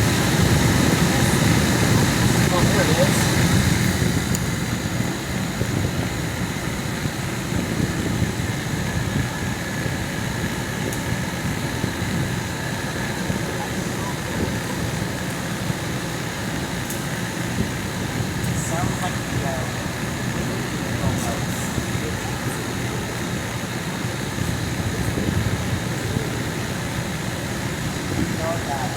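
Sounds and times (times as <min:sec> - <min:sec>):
air conditioner fan rushing: 0:00.0 - 0:28.9.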